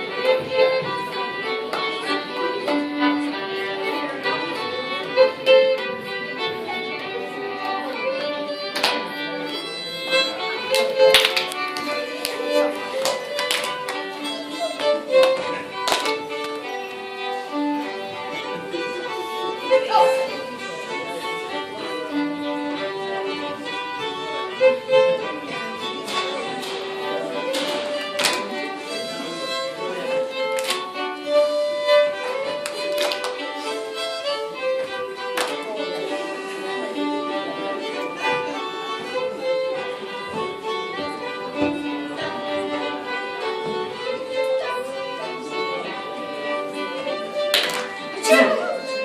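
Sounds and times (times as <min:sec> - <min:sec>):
fiddle playing folk-dance tune: 0:00.0 - 0:49.0.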